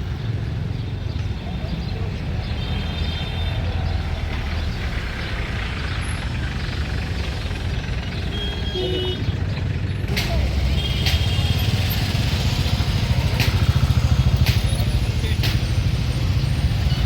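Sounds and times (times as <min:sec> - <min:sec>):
low rumble of motor vehicles: 0:00.0 - 0:17.0.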